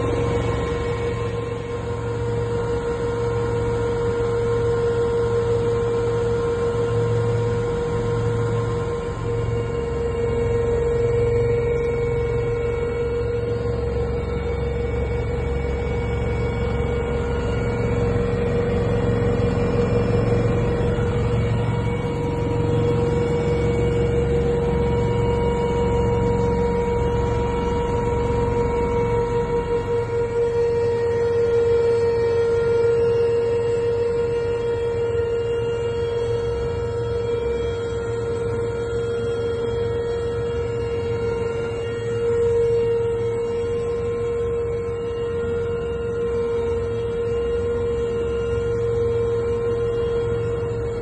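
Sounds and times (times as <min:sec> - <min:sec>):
helicopter cabin hum with whine: 0:00.0 - 0:51.0.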